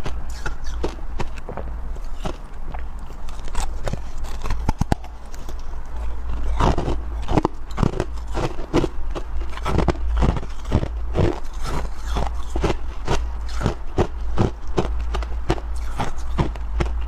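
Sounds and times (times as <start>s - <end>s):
chewing crunchy frost: 0.0s - 17.0s.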